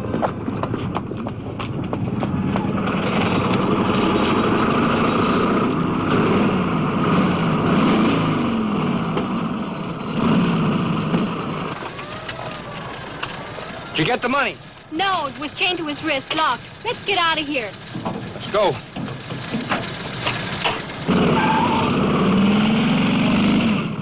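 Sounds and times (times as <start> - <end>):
car engines revving at speed: 0.0 - 24.0.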